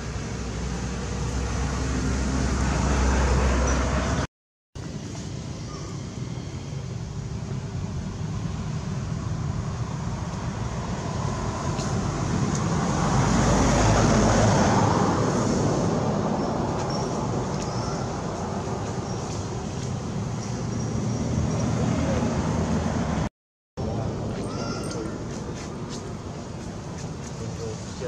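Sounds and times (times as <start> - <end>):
vehicle passing: 0.0 - 4.3, 8.5 - 28.0.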